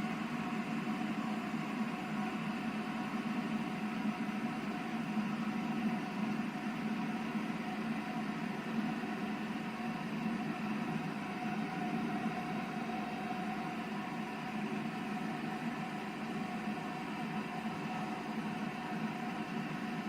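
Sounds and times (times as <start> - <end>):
electric kettle heating water: 0.0 - 20.0.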